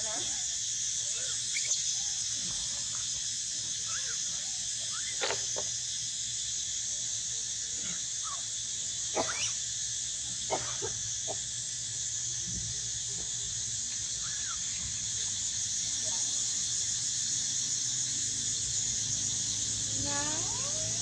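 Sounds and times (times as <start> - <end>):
insect drone: 0.0 - 21.0.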